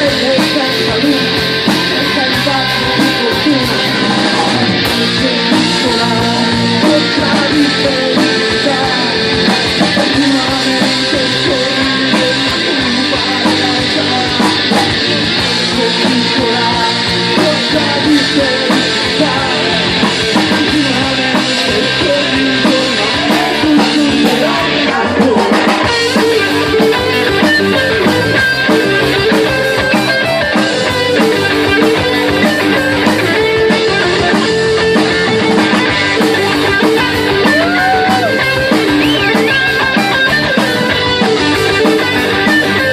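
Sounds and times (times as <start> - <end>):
live rock band playing: 0.0 - 42.9.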